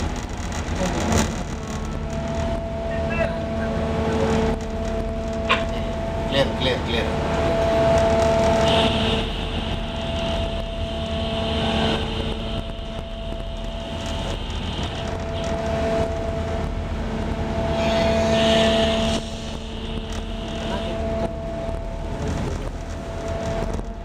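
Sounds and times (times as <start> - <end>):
ship engines droning: 0.0 - 24.0.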